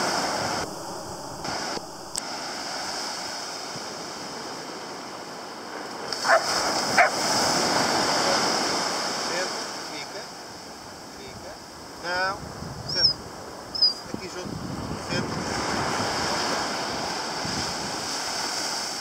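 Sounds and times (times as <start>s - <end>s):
wind on microphone: 0.0s - 9.8s, 10.4s - 19.0s
small waves breaking on sand: 0.0s - 19.0s.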